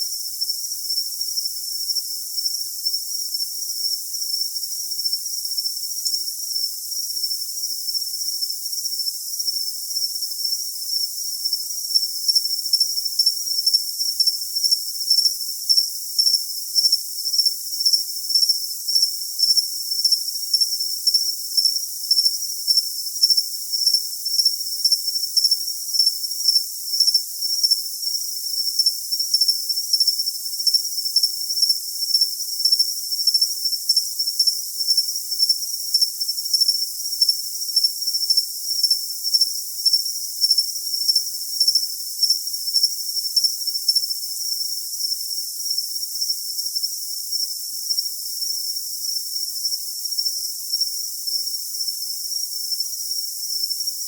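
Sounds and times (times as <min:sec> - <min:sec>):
cricket chirping: 0:00.0 - 0:54.0.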